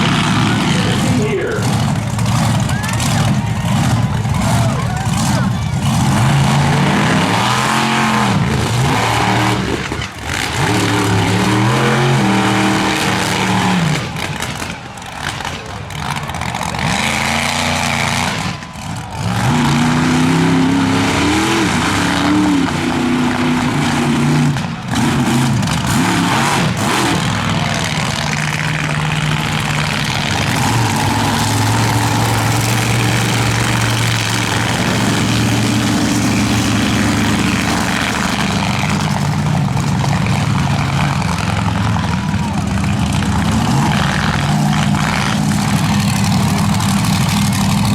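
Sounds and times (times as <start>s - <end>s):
monster truck engines revving: 0.0s - 47.9s.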